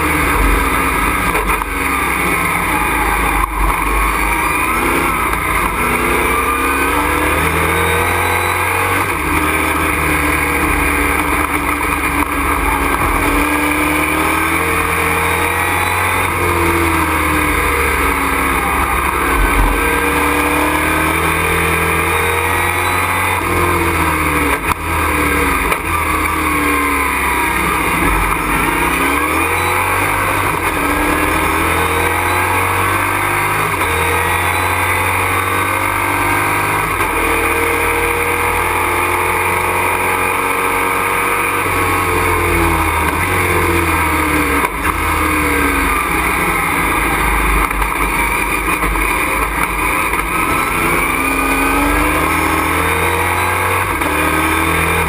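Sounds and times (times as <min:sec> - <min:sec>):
race truck engine revving: 0:00.0 - 0:55.0
road and wind noise: 0:00.0 - 0:55.0.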